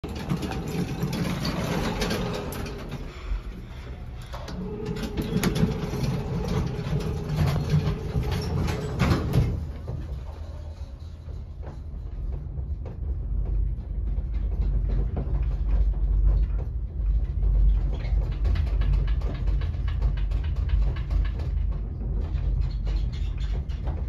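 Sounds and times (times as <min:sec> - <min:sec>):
elevator hum and rumble: 0:00.0 - 0:24.0
elevator clicks and knocks: 0:04.3 - 0:24.0.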